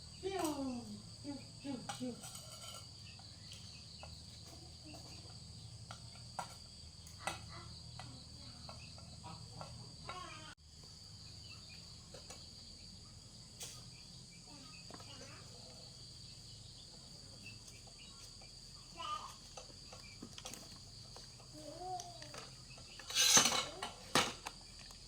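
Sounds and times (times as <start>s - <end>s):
crickets chirring: 0.0s - 25.0s.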